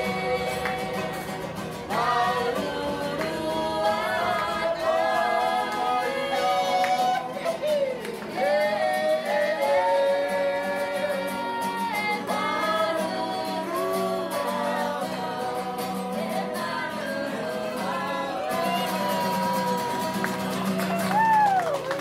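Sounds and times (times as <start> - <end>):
women singing: 0.0 - 20.5
strummed acoustic guitar: 0.0 - 21.8.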